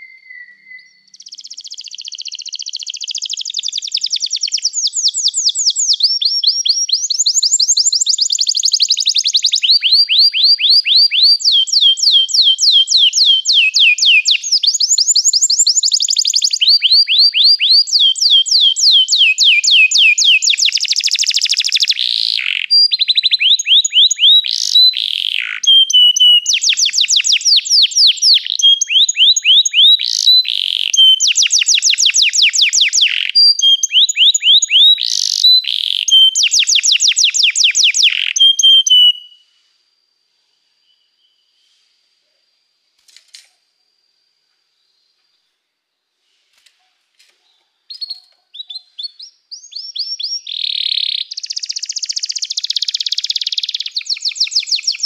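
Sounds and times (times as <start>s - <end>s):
canary singing trills: 0.0s - 39.4s, 47.4s - 55.0s.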